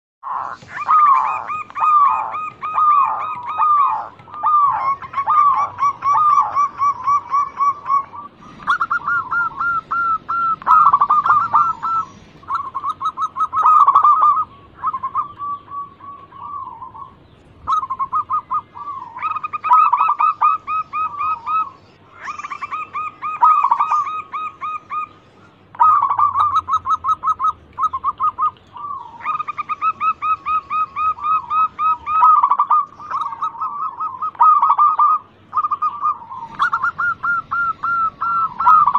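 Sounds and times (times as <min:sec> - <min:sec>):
dove cooing: 0:00.2 - 0:38.9.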